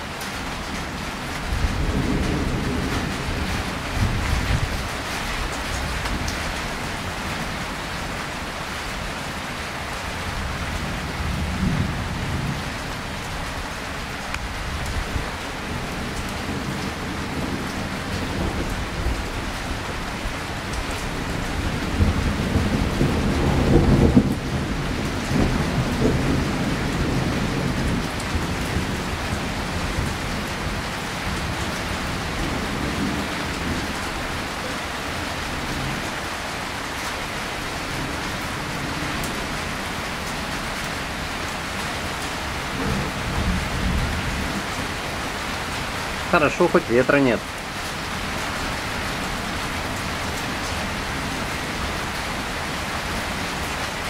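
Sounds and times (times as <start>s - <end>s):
low thunder rumbling: 0.0s - 7.5s, 10.2s - 36.2s, 37.2s - 53.8s
rain falling steadily: 0.0s - 54.0s.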